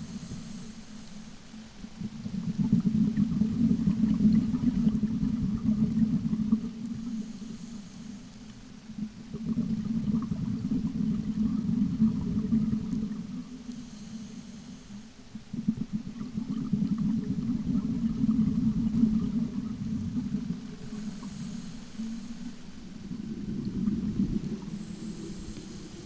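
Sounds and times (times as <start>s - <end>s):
soft hiss: 0.0s - 26.0s
underwater bubbles gurgling: 0.0s - 26.0s.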